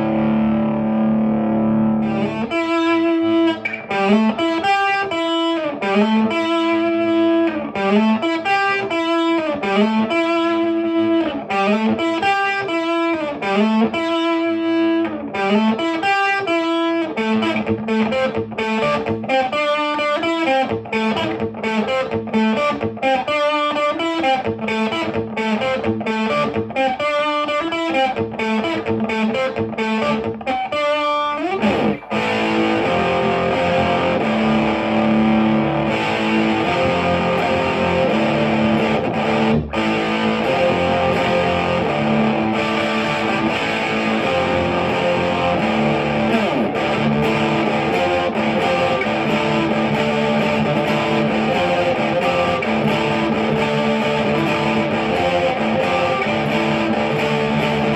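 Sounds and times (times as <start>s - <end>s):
distorted electric guitar: 0.0s - 57.9s.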